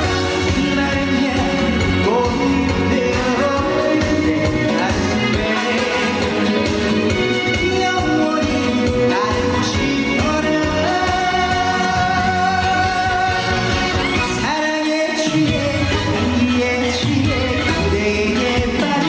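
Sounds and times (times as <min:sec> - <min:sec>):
band playing with bass beat: 0:00.0 - 0:19.0
man singing: 0:00.0 - 0:19.0.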